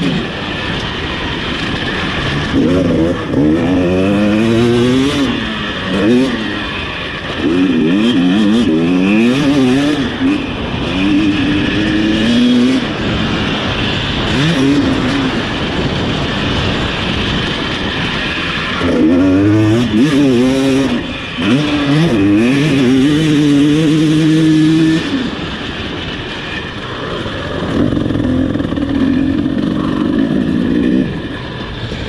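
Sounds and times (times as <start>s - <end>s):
motocross engine revving: 0.0s - 25.8s, 26.8s - 32.0s.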